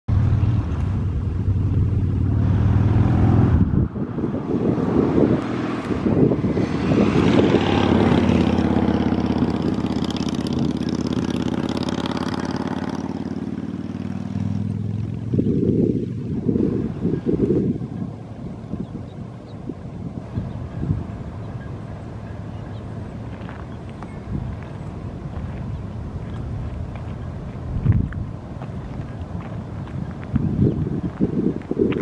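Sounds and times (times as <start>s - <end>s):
vehicle engine passing by: 0.1s - 31.3s.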